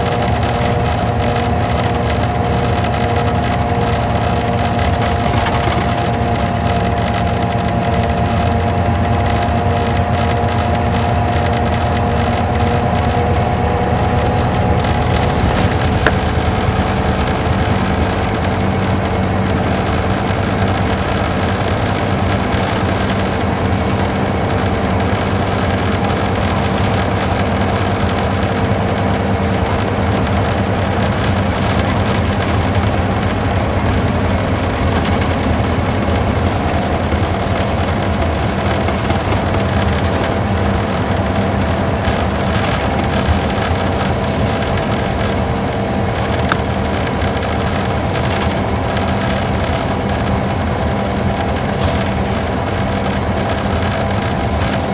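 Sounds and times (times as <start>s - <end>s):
coach engine running: 0.0s - 54.9s
tyre and road noise: 0.0s - 54.9s.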